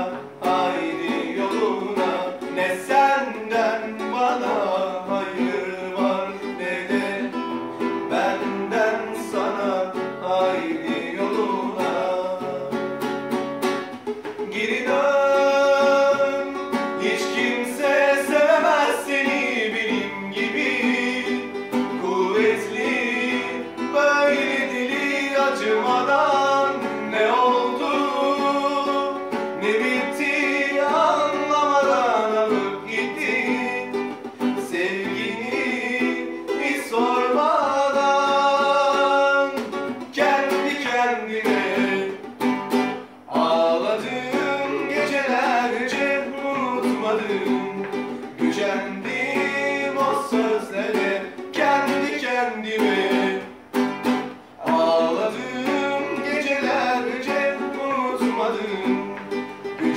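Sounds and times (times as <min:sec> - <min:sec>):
person singing: 0:00.0 - 0:13.0, 0:13.9 - 0:59.9
plucked strings: 0:00.0 - 0:59.9.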